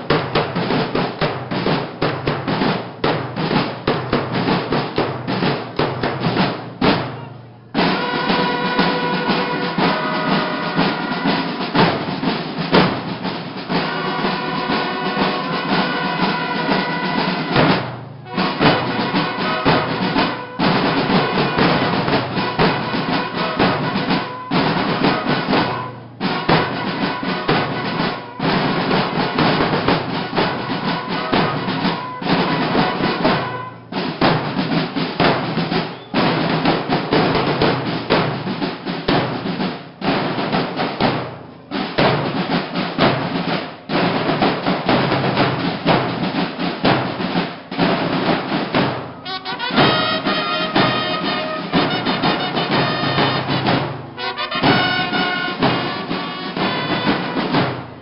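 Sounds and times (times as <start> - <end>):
bugles playing: 0.0 - 58.0
snare drums beating a cadence: 0.0 - 58.0.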